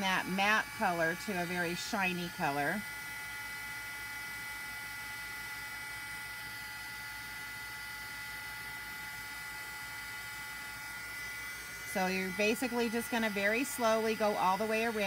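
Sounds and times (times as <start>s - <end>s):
faint high whine: 0.0s - 15.0s
heat tool fan whirring hiss: 0.0s - 15.0s.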